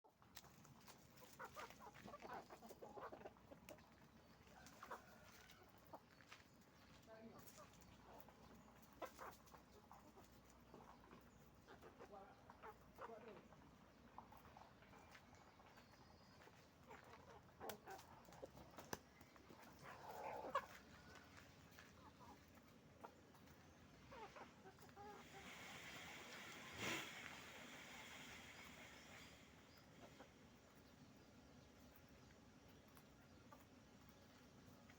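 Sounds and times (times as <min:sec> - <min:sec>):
chickens clucking: 0:00.1 - 0:34.9
farmyard animal calls: 0:00.1 - 0:34.9.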